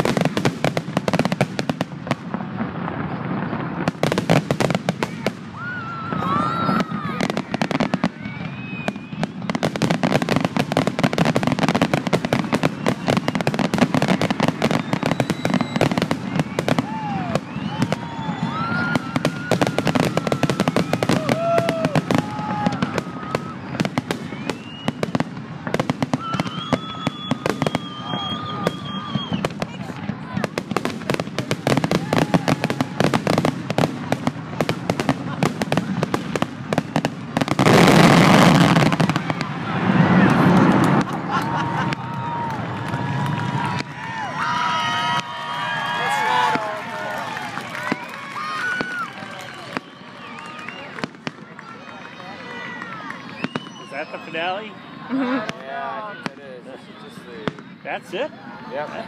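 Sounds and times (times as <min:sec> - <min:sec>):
fireworks reports and crackles: 0:00.0 - 0:59.0.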